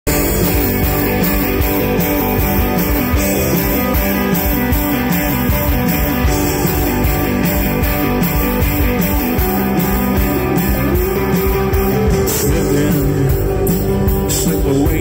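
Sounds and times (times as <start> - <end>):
bass guitar: 0.0 - 15.0
drums: 0.0 - 15.0
electric guitars: 0.0 - 15.0
keyboard: 0.0 - 15.0.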